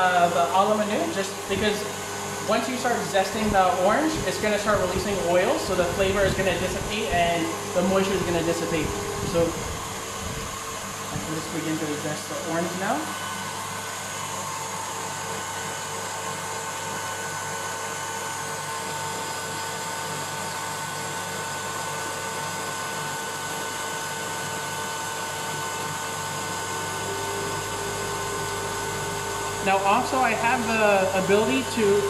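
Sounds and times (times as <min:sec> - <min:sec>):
stand mixer motor whine: 0:00.0 - 0:32.0.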